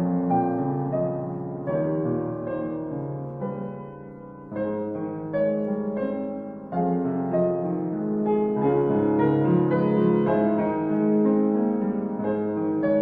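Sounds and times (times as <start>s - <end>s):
slow gentle piano piece: 0.0s - 13.0s.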